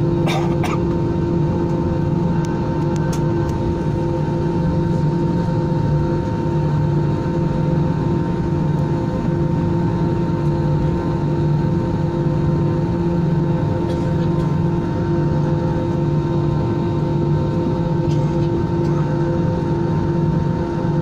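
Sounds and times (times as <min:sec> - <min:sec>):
jet engines droning: 0:00.0 - 0:21.0.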